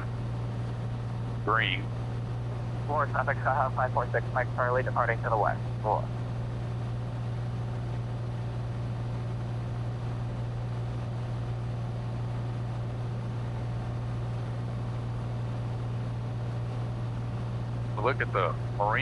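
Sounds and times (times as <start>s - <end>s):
airplane engine and propeller droning: 0.0s - 19.0s.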